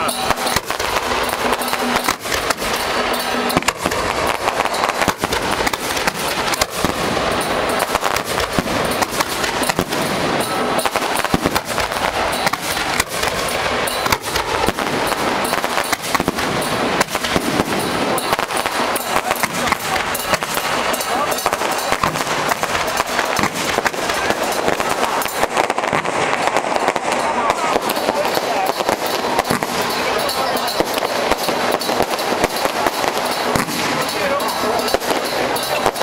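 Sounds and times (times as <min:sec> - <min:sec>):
firecrackers crackling: 0:00.0 - 0:36.0.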